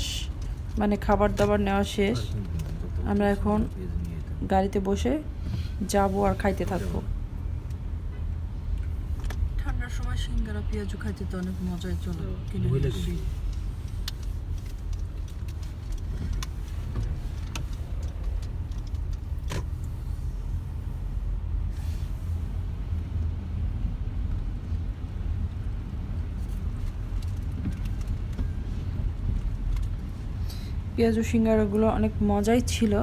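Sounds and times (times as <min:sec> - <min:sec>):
car low rumble: 0:00.0 - 0:33.0.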